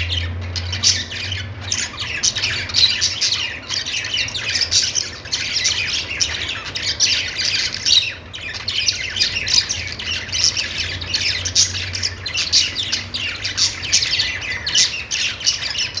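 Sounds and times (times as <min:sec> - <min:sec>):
budgerigars chirping and chattering: 0:00.0 - 0:16.0.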